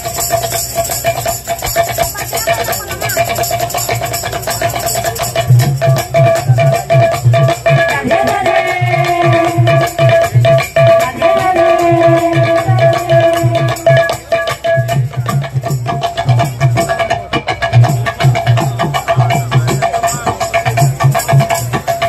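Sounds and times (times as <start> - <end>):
barrel drum rhythm: 0.0 - 22.0
hand cymbals clashing: 0.0 - 22.0.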